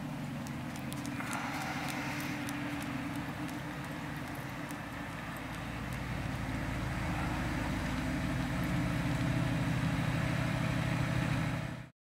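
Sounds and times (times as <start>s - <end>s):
car engine at low revs: 0.0s - 11.9s.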